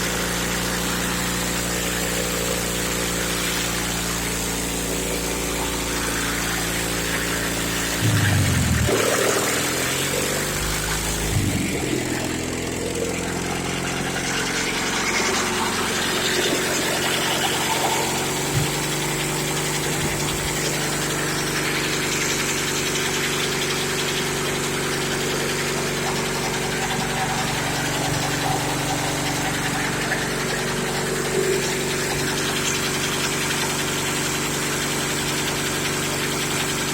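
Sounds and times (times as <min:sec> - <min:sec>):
pony motor running: 0:00.0 - 0:36.9.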